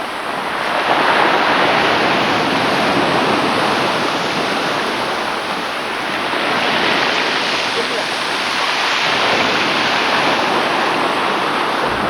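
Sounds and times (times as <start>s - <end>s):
sea surf washing in: 0.0s - 12.0s.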